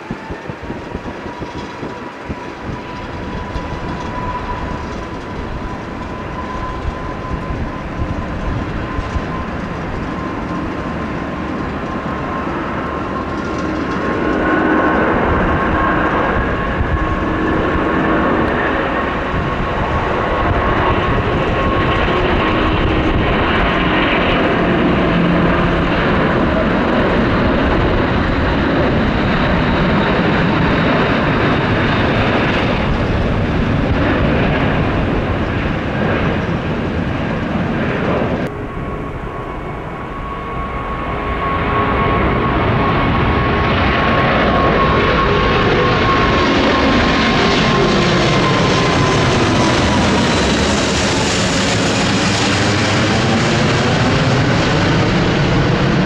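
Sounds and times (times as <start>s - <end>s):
jet engines running with whine: 0.0s - 56.0s.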